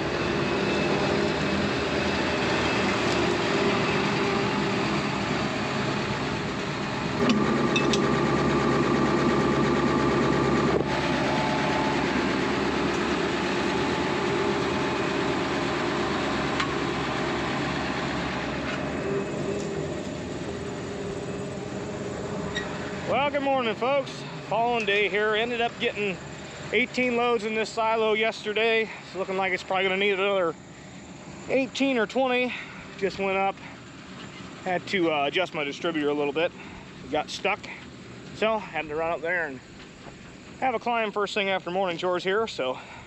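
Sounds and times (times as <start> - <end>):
forage harvester running: 0.0 - 43.0
machinery whine: 0.0 - 43.0.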